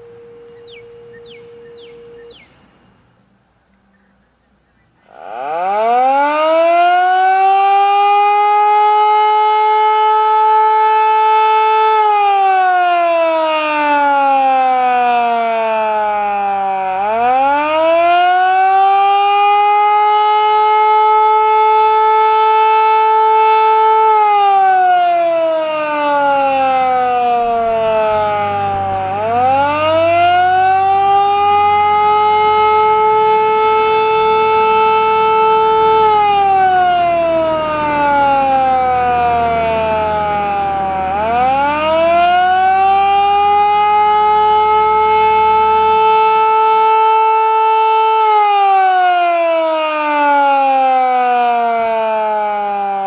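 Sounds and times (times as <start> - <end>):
warning siren wailing: 0.0 - 2.7, 5.0 - 53.0.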